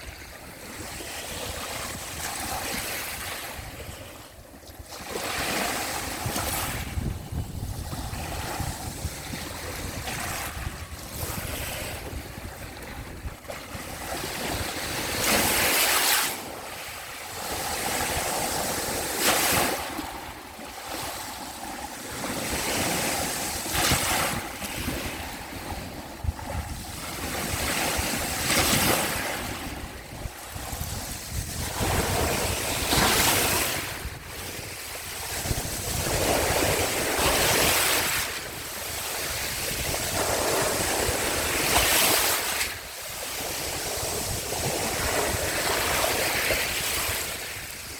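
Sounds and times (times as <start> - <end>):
waves washing onto shore: 0.0 - 47.9.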